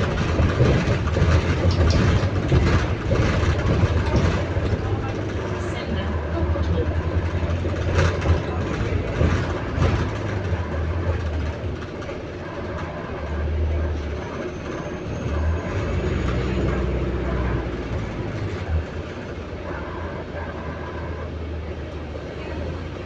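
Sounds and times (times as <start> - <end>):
bus engine drone: 0.0 - 23.0
bus knocks and rattles: 0.0 - 23.0.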